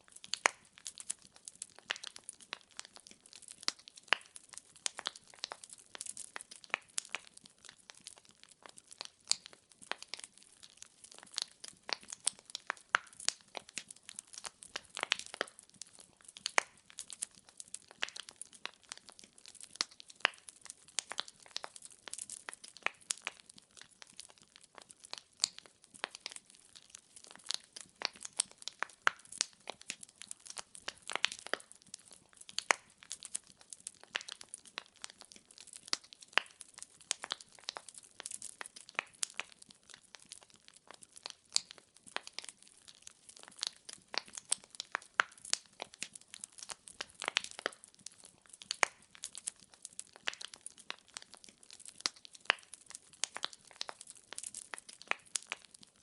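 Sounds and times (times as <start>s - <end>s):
firewood crackling and popping: 0.0s - 56.0s.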